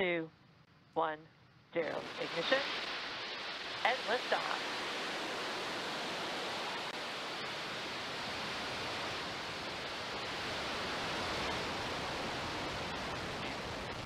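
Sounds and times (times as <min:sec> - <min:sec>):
rocket engines roaring: 0:01.8 - 0:14.0.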